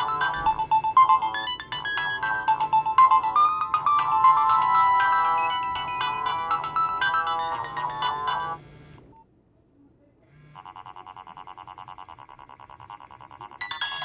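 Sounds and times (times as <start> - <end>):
electronic ringtone melody: 0.0 - 9.0, 10.6 - 14.0
rapidly pulsing ringtone: 0.0 - 9.0, 10.4 - 14.0.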